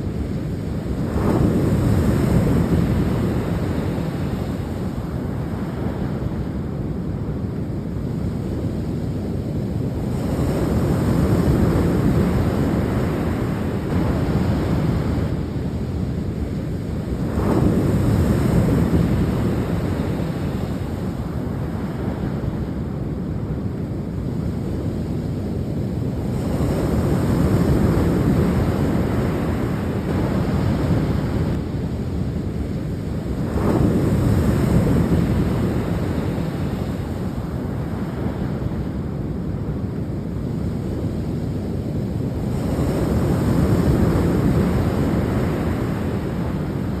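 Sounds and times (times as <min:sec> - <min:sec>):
sea waves breaking on shore: 0:00.0 - 0:47.0
wind rumbling on microphone: 0:00.0 - 0:47.0.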